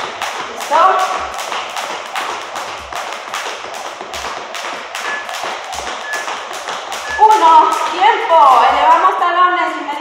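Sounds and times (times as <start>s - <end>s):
skipping ropes slapping floor: 0.0s - 9.8s.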